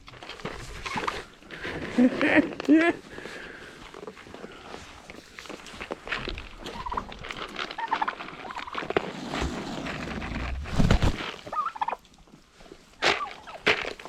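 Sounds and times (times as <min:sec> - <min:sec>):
animals pecking and crunching: 0:00.0 - 0:14.0.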